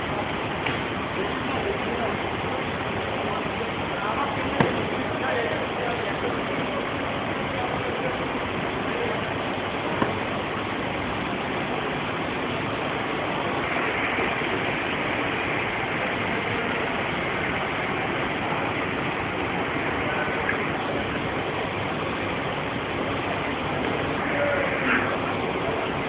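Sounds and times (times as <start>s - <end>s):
laundry machinery running: 0.0s - 26.0s.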